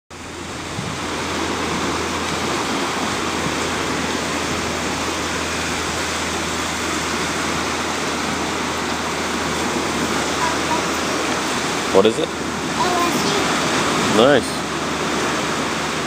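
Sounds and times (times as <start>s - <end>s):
waves breaking on a sandy beach: 0.1s - 16.0s.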